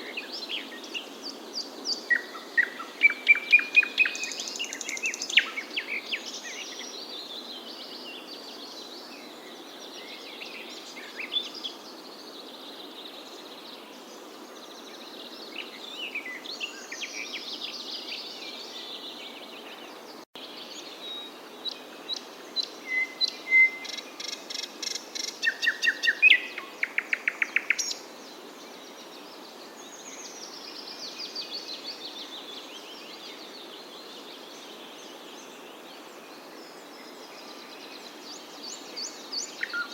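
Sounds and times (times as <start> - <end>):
background hiss: 0.0 - 39.9
songbirds chirping and singing: 0.0 - 39.9.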